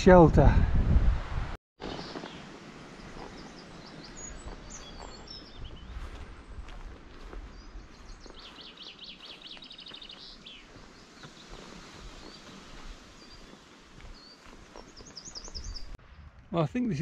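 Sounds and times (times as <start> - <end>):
songbird singing trills: 1.8 - 16.0.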